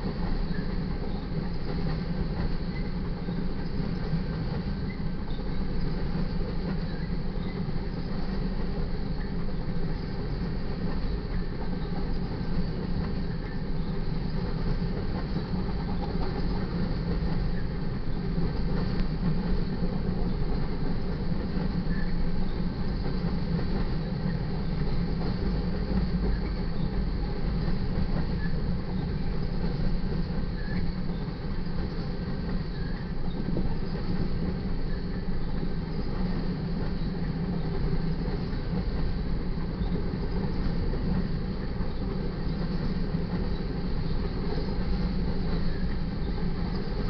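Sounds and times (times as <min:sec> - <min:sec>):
freight train wheels rumbling on rails: 0:00.0 - 0:47.0.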